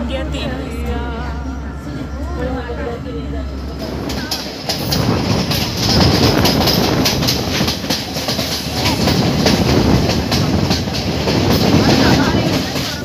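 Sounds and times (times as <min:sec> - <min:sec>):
train carriages rumbling: 0:00.0 - 0:13.0.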